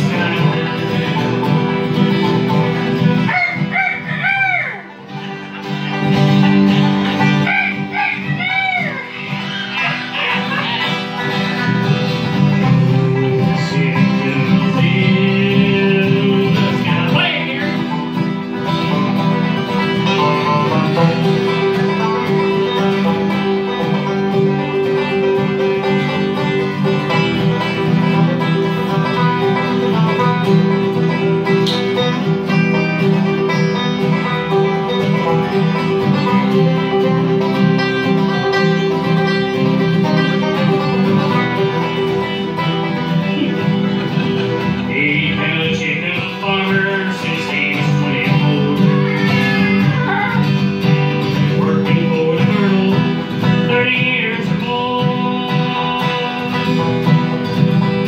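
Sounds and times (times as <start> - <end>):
acoustic guitars strumming: 0.0 - 58.0
banjo: 0.0 - 58.0
resonator guitar: 0.0 - 58.0.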